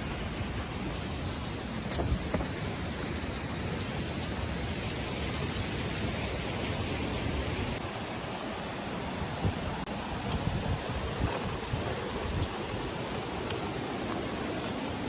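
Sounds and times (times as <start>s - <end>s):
river rushing over stones: 0.0s - 15.0s.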